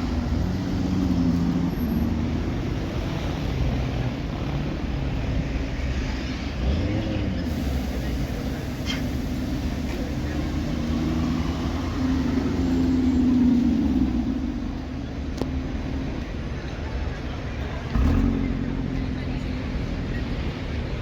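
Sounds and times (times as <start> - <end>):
car engines passing: 0.0 - 21.0.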